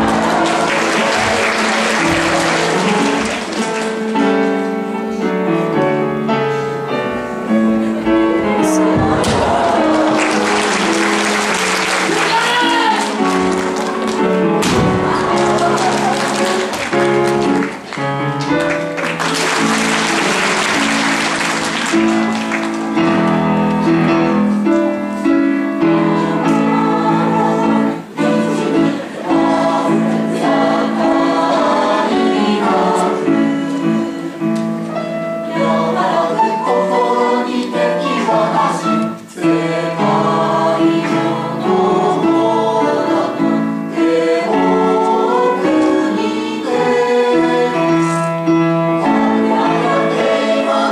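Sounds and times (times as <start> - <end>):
choir singing: 0.0 - 4.3, 6.9 - 18.2, 19.0 - 50.9.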